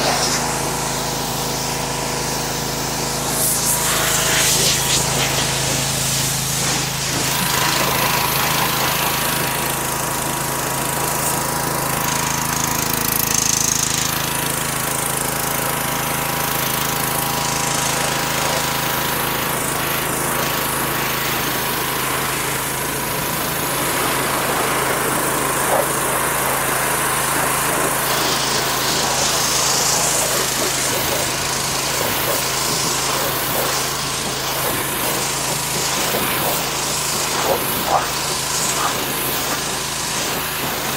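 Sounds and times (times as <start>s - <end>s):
high-pressure water spray hissing: 0.0s - 40.9s
pressure washer motor droning: 0.0s - 40.9s.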